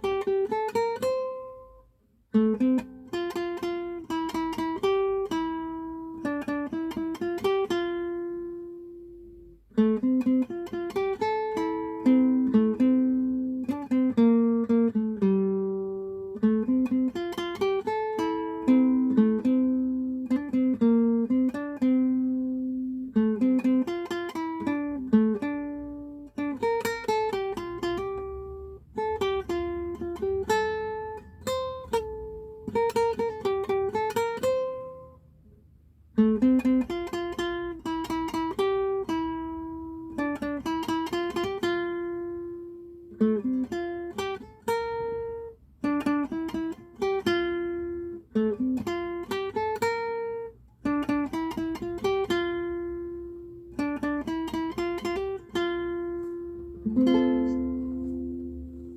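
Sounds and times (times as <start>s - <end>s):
acoustic guitar melody: 0.0s - 58.9s.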